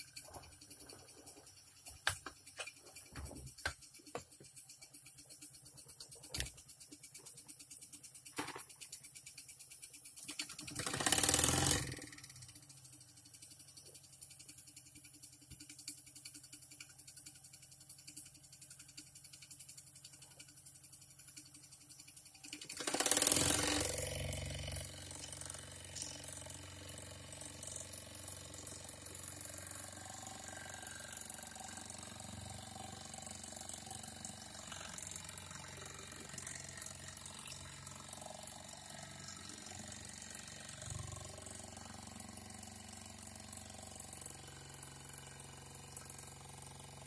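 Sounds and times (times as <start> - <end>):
toy steam engine hissing: 0.0 - 47.0.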